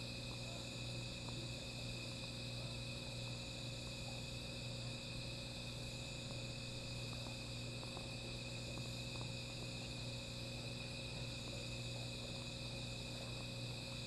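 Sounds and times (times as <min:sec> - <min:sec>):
crickets chirring: 0:00.0 - 0:14.0
steady low hum: 0:00.0 - 0:14.0.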